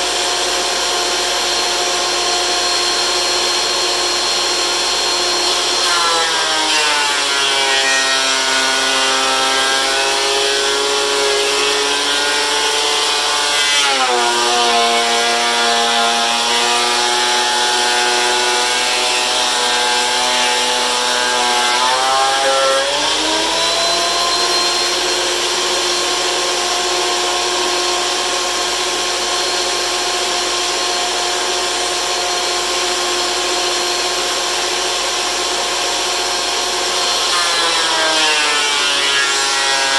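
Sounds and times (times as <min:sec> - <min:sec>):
thickness planer cutting wood: 0:00.0 - 0:39.9.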